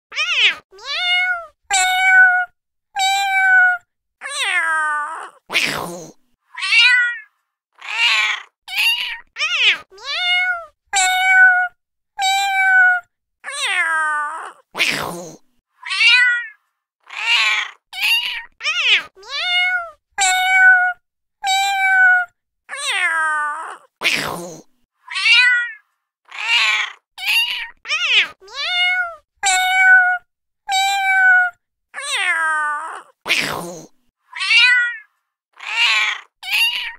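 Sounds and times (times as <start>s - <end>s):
cat meowing: 0.1s - 5.8s, 6.5s - 15.0s, 15.8s - 24.2s, 25.1s - 33.6s, 34.3s - 36.9s
harsh raspy cat call: 0.1s - 36.9s.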